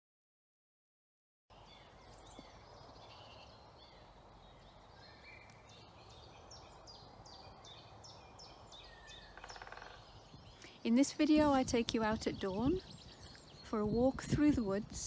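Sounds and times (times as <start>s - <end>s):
birds singing: 1.5s - 15.0s.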